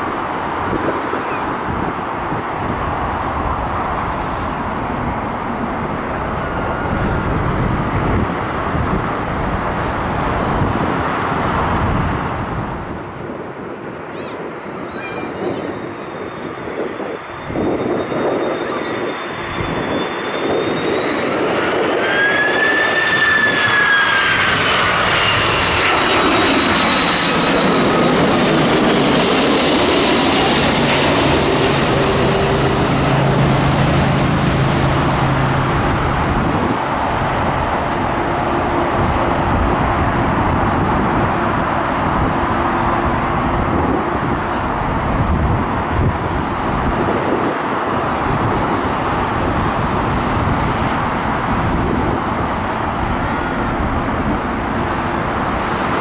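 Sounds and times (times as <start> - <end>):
jet airliner roar: 0.0 - 56.0
jet engine whine: 0.0 - 56.0.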